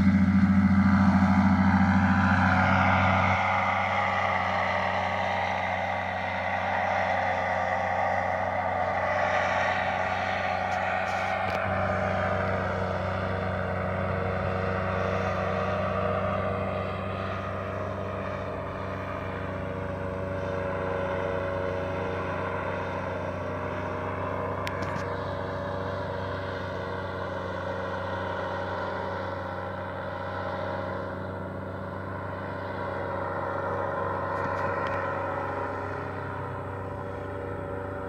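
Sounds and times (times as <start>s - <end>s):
paramotor engine droning: 0.0s - 38.0s.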